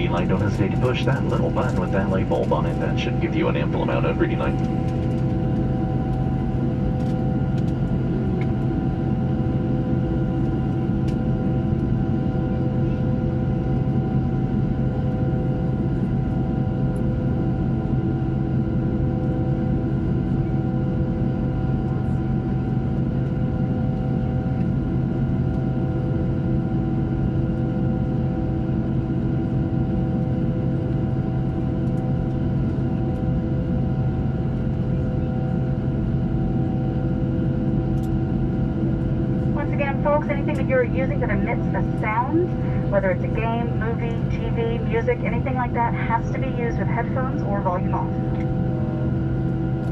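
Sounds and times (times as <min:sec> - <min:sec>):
aircraft cabin drone: 0:00.0 - 0:49.9.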